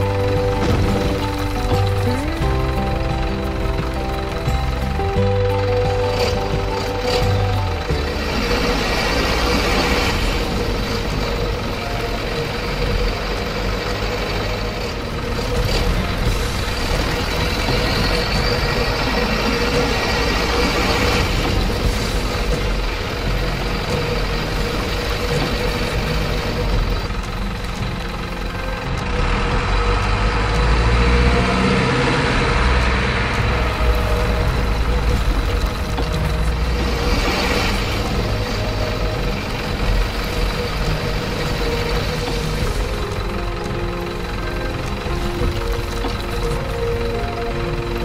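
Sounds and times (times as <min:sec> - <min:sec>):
model truck engine drone: 0:00.0 - 0:48.0.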